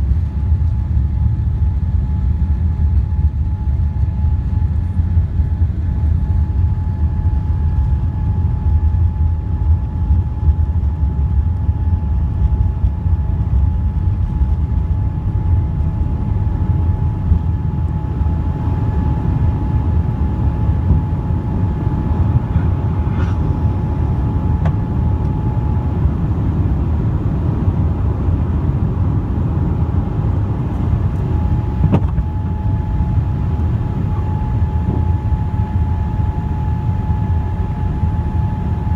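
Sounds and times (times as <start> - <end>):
jet engine and airflow roar: 0.0 - 38.9
thin steady whine: 0.0 - 38.9.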